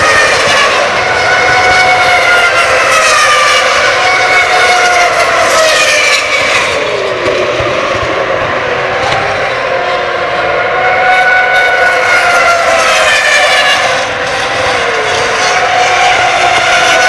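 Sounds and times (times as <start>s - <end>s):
racing car engines at high revs: 0.0s - 17.0s.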